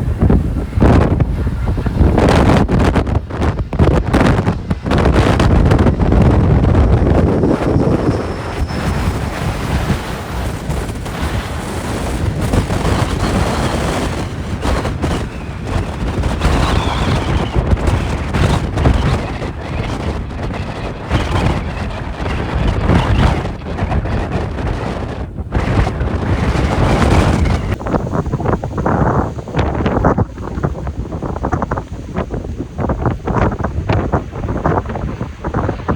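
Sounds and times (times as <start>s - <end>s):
gusty wind buffeting microphone: 0.0s - 35.9s
jet engines whining: 0.0s - 35.9s.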